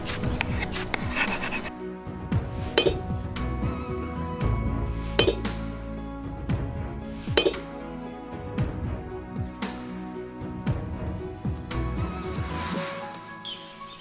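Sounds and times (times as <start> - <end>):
background music with held notes: 0.0 - 14.0.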